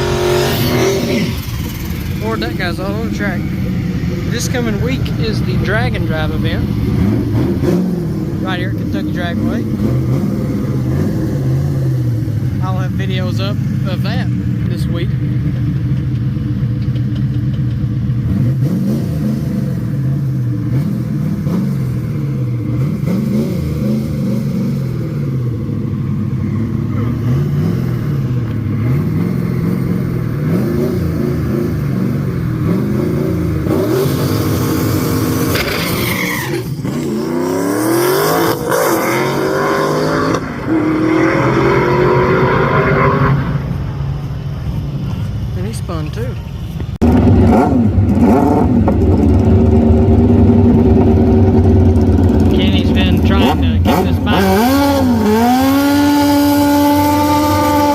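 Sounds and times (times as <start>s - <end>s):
racing car engines revving: 0.0s - 57.9s.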